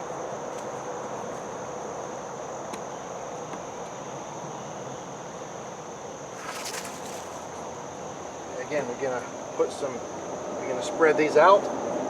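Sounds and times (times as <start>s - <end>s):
insects chirring: 0.0s - 12.0s
outdoor noise: 0.0s - 12.0s.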